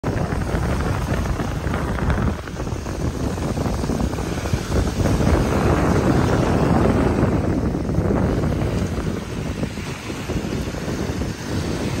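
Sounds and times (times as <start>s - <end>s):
waves washing over pebbles: 0.0s - 12.0s
wind on microphone: 0.0s - 12.0s.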